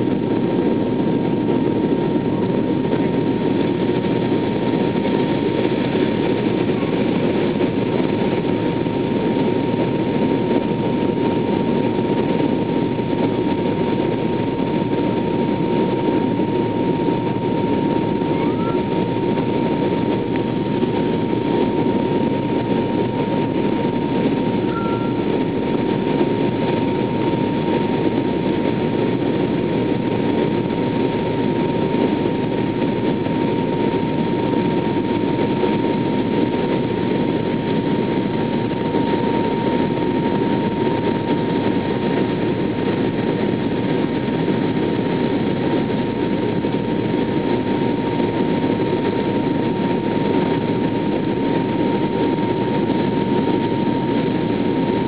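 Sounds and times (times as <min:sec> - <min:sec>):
airliner engines roaring: 0:00.0 - 0:55.0
thin steady whine: 0:00.0 - 0:55.0.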